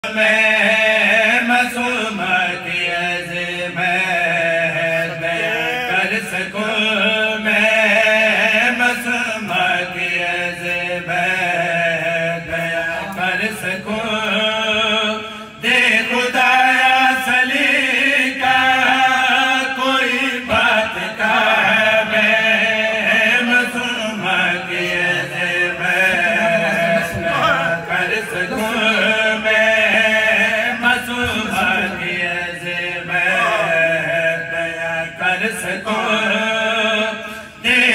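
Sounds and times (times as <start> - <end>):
man chanting into a microphone: 0.0 - 37.9.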